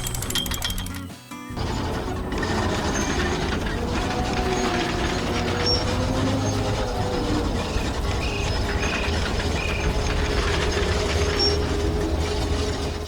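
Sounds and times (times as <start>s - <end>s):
heavy machinery rumbling: 0.0s - 13.0s
rattling: 0.0s - 13.0s.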